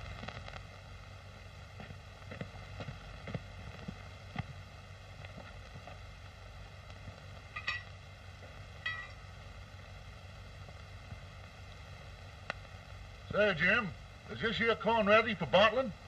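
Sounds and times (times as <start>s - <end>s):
film soundtrack hiss and crackle: 0.0s - 16.0s.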